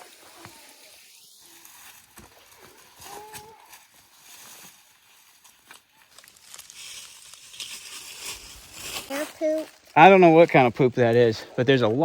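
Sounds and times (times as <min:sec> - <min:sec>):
footsteps crunching dry leaves: 0:00.0 - 0:10.5.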